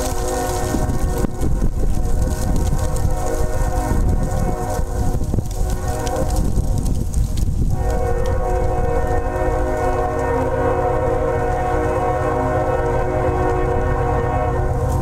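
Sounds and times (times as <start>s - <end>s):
locomotive air horn: 0.0s - 6.4s, 7.7s - 15.0s.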